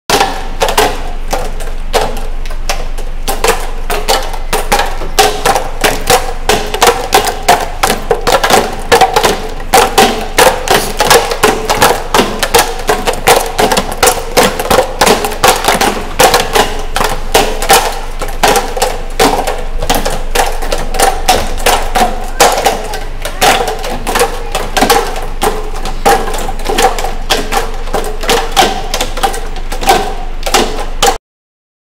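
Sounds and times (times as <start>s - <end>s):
gloved punches hitting plastic bottles: 0.1s - 31.2s.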